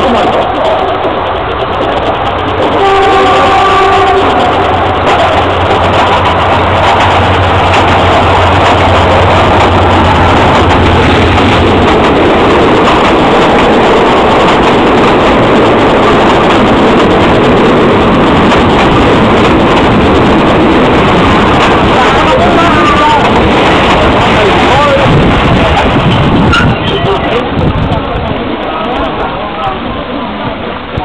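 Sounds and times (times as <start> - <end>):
diesel locomotive engine hum: 0.0 - 31.0
train carriages rolling by: 0.0 - 31.0.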